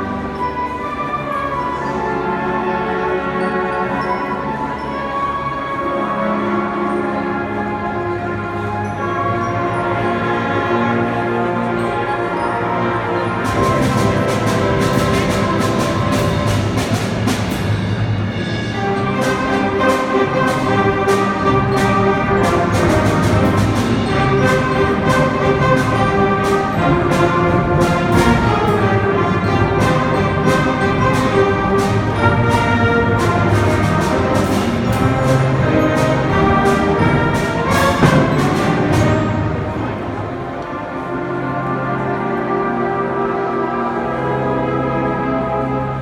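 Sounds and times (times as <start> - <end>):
brass melody: 0.0 - 46.0.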